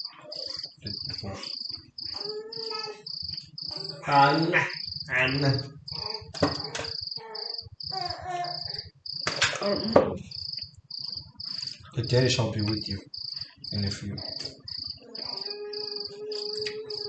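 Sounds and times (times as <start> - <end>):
cricket chirping: 0.0 - 17.0
indistinct voices talking: 0.0 - 17.0.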